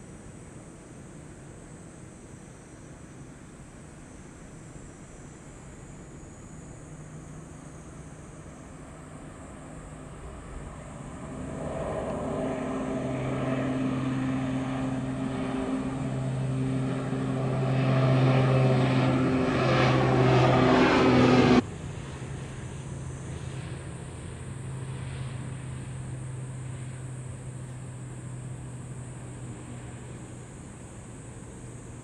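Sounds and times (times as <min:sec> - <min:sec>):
turboprop airliner drone overhead: 0:00.0 - 0:32.0.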